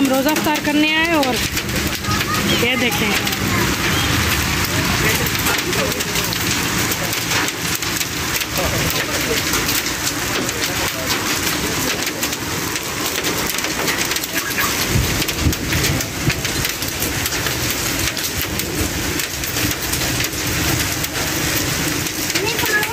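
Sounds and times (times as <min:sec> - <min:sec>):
rain and hail pelting: 0:00.0 - 0:22.9.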